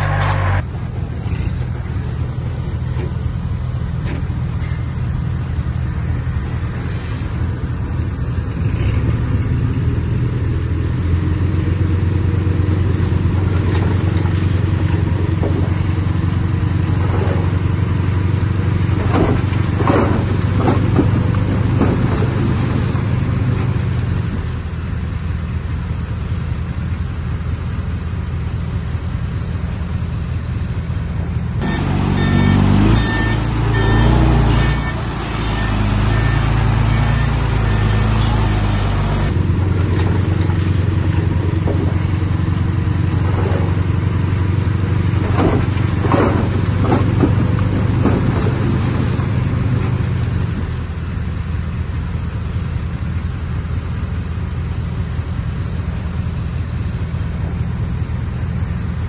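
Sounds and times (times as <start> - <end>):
diesel engines running under load: 0.0 - 59.0.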